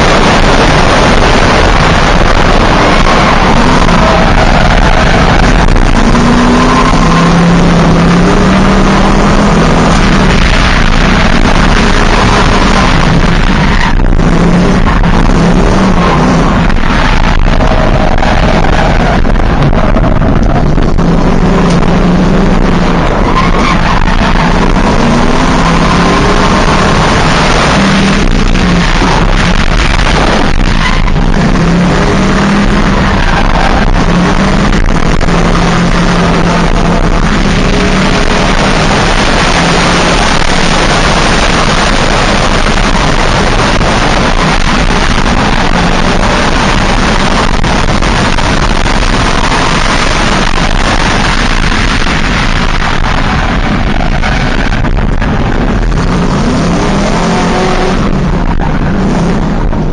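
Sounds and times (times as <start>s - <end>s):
car engine revving: 0.0s - 59.9s
loud rushing noise: 0.0s - 59.9s.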